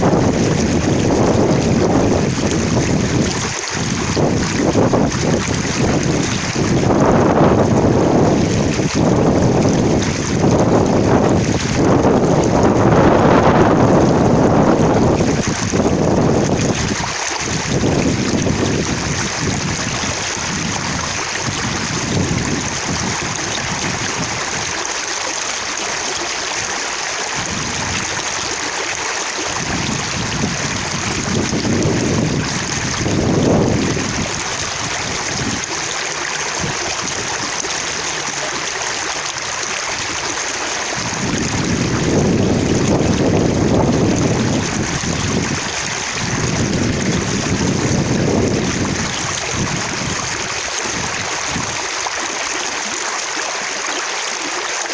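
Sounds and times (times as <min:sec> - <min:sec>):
water running and splashing: 0:00.0 - 0:54.9.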